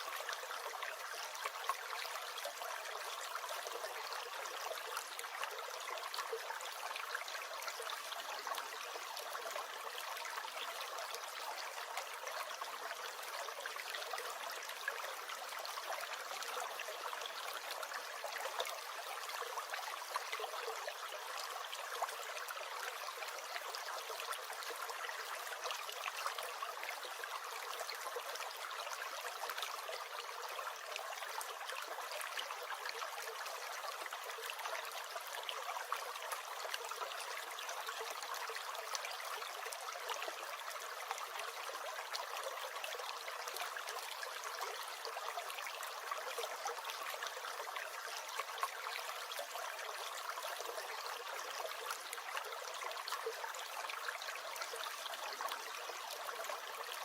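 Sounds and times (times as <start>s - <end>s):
small stream gurgling and trickling: 0.0s - 57.0s.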